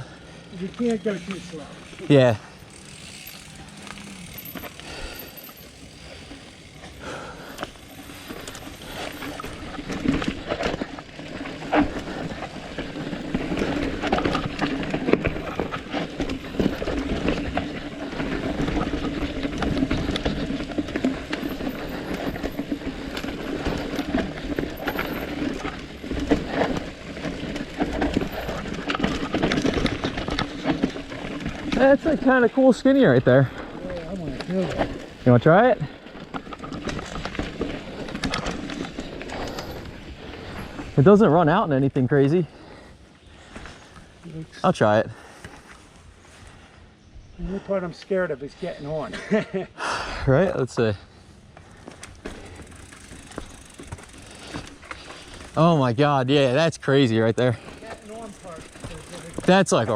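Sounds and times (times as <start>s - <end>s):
bike knocking and rattling: 0.0s - 46.6s, 50.5s - 59.9s
bike tyres on dirt trail: 0.0s - 59.9s.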